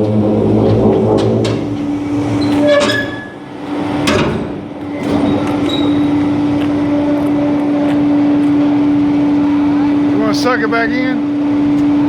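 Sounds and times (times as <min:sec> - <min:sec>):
hydraulic packer humming: 0:00.0 - 0:12.0.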